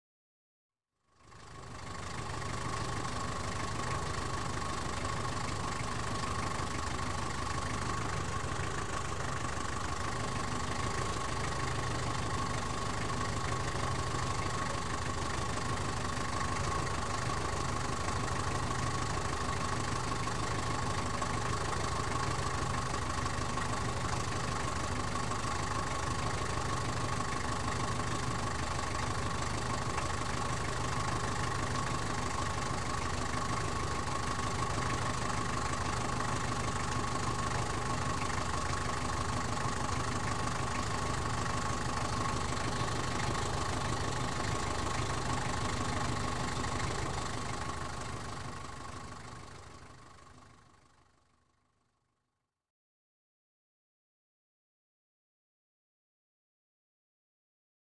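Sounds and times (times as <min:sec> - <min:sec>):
car engine idling: 0:01.1 - 0:51.6.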